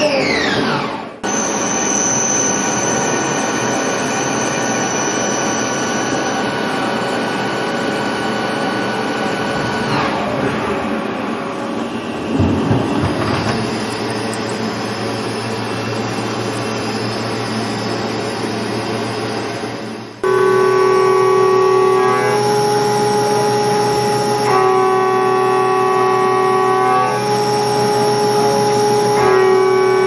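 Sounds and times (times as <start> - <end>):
lathe machine running: 0.0 - 30.0
machine whine of several tones: 0.0 - 30.0.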